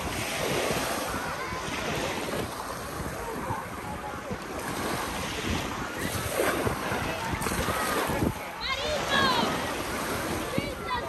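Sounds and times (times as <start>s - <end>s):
sea waves washing onto beach: 0.0s - 11.0s
wind buffeting microphone: 0.0s - 11.0s.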